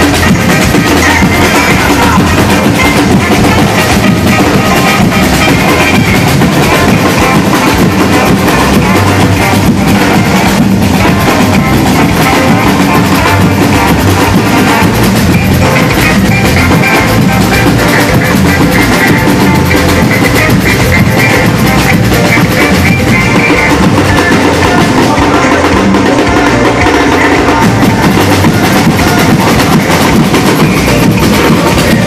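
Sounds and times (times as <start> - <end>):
samba drum ensemble: 0.0 - 32.0.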